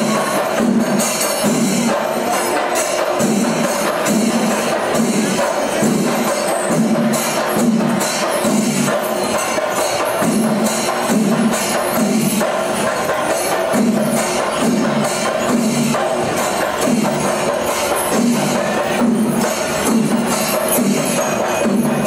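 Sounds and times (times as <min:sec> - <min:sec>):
clashing cymbals: 0:00.0 - 0:22.0
drums beating a steady rhythm: 0:00.0 - 0:22.0.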